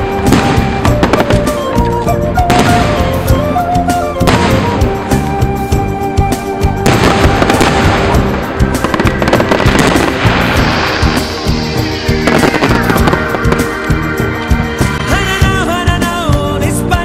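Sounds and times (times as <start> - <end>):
fireworks bangs and crackles: 0.0 - 16.3
loud music: 0.0 - 17.0.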